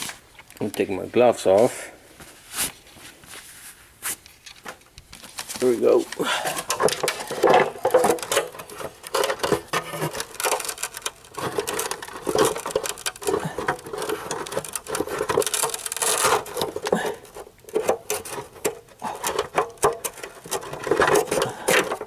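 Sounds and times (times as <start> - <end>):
hard plastic parts clicking and rubbing: 4.2 - 22.0.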